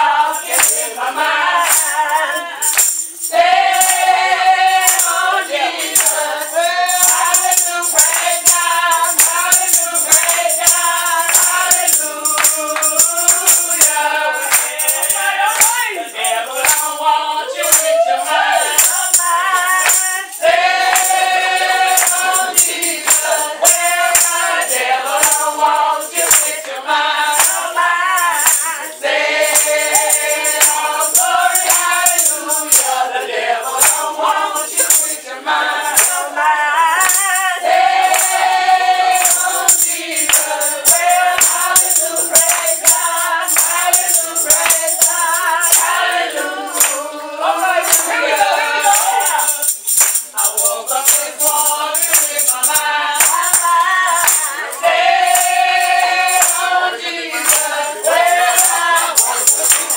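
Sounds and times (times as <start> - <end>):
congregation singing a hymn: 0.0 - 59.9
shaken percussion rattle: 0.0 - 59.9.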